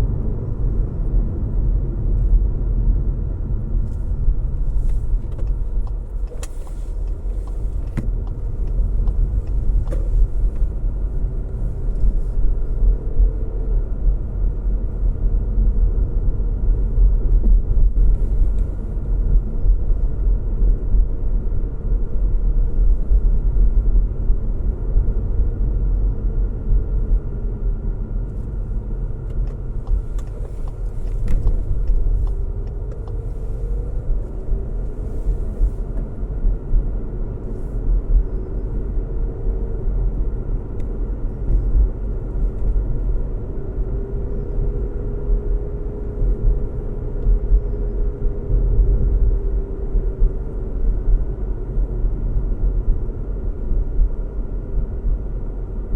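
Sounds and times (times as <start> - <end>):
car engine and road noise: 0.0 - 55.9.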